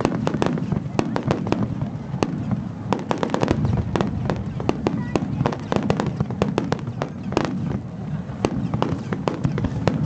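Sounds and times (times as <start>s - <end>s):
fireworks popping and banging: 0.0s - 10.0s.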